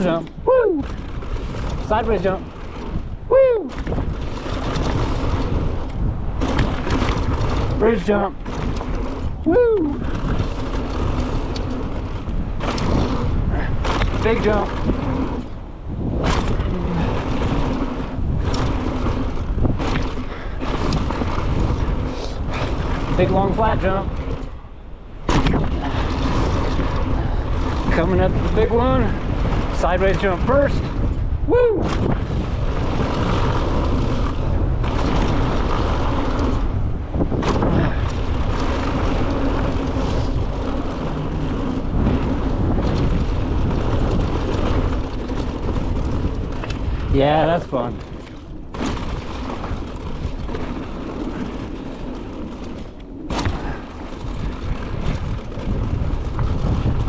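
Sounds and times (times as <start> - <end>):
bike rolling on dirt trail: 0.0 - 57.0
wind buffeting microphone: 0.0 - 57.0.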